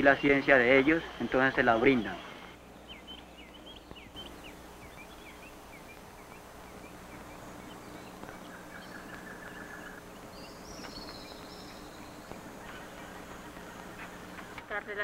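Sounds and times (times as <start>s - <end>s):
faint bird chirps and trills: 0.0s - 15.0s.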